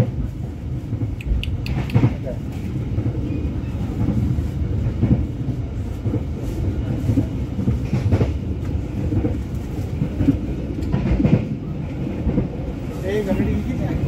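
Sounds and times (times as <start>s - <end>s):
train low rumble: 0.0s - 14.0s
train wheels clacking: 0.8s - 14.0s.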